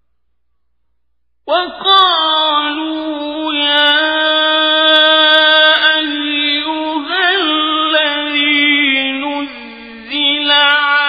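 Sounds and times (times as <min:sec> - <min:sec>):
man chanting melodically: 0:01.5 - 0:11.0.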